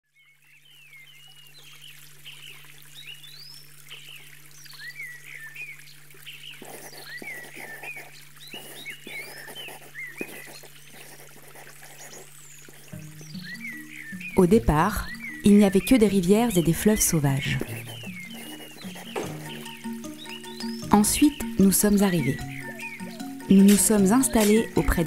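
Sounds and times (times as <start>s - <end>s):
birds chirping: 0.2s - 25.0s
running water trickling: 0.2s - 25.0s.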